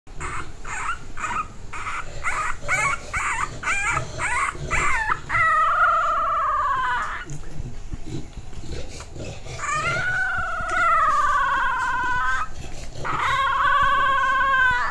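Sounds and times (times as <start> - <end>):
puppy whimpering and wailing: 0.2 - 7.3, 9.6 - 14.9.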